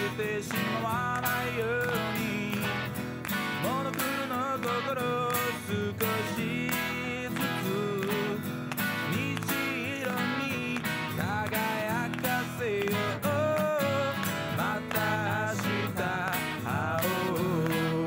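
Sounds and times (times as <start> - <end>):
strummed acoustic guitar music: 0.0 - 18.0.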